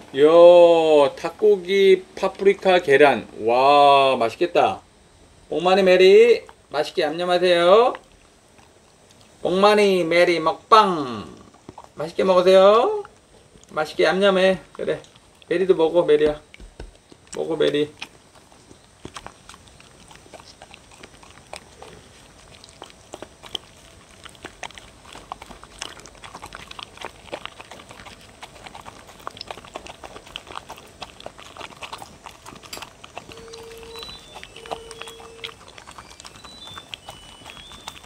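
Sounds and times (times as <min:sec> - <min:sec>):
dogs chewing and smacking: 0:01.0 - 0:03.4, 0:05.5 - 0:38.0.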